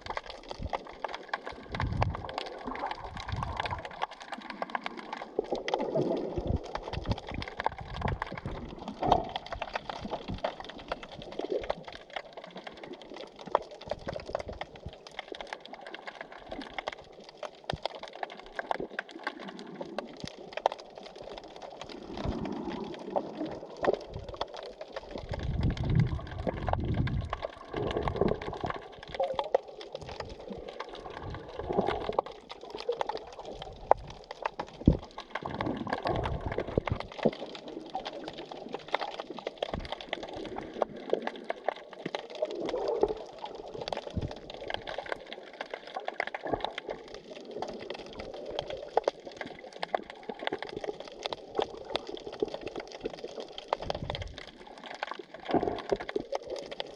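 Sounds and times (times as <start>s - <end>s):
bubbling gurgling water: 0.0s - 56.9s
underwater crackle of clicks: 0.0s - 56.9s.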